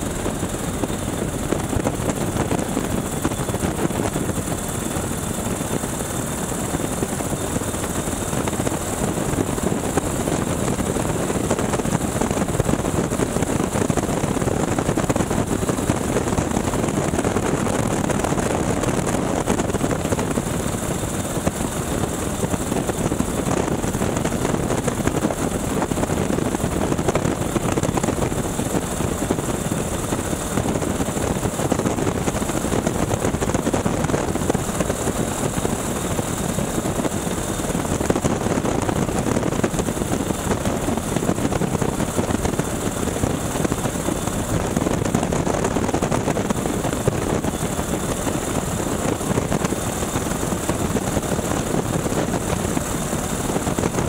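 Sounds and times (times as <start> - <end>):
propeller plane engine: 0.0 - 54.0
rushing wind: 0.0 - 54.0.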